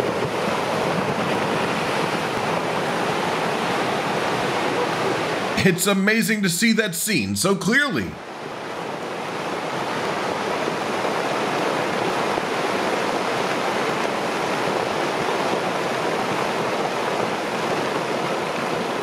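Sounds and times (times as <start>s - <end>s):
rushing water: 0.0s - 6.4s, 7.2s - 19.0s.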